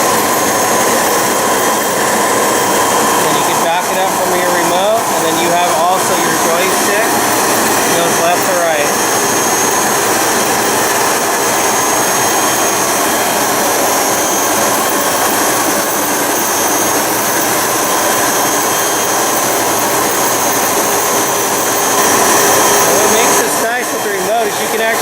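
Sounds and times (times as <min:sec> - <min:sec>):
floor grinder with high whine: 0:00.0 - 0:25.0.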